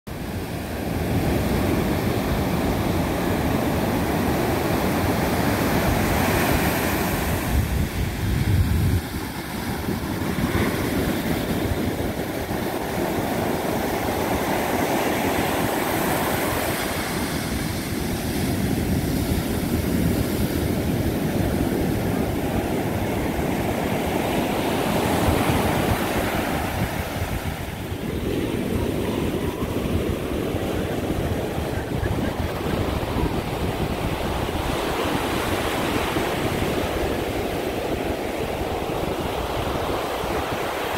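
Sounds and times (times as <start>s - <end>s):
ocean surf breaking on beach: 0.1s - 40.9s
wind buffeting microphone: 0.1s - 40.9s.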